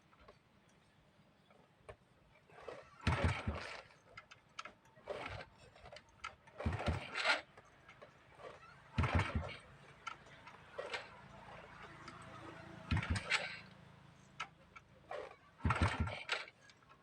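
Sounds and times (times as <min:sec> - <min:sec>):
motorcycle kick-starter clatter: 0:01.9 - 0:17.0.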